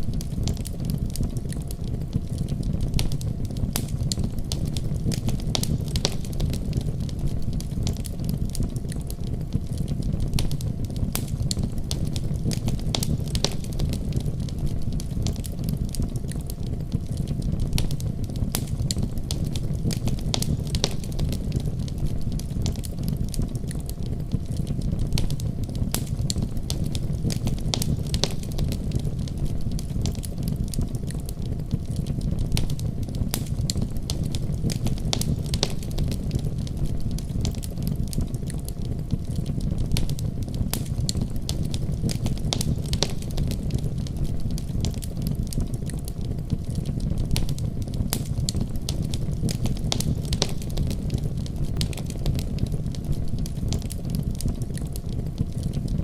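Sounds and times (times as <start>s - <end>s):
fire crackles and pops: 0.0s - 56.0s
low roar of flames: 0.0s - 56.0s.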